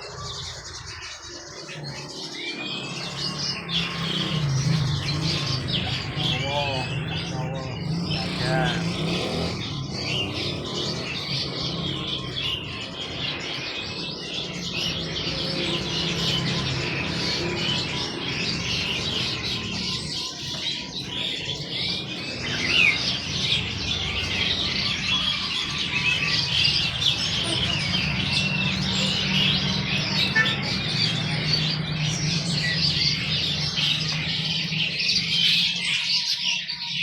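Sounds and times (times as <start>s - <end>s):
songbirds chirping and twittering: 0.0s - 37.0s.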